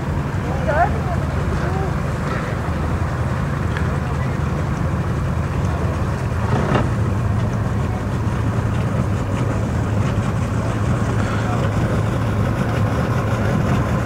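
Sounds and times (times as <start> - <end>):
outboard engines idling: 0.0 - 14.0.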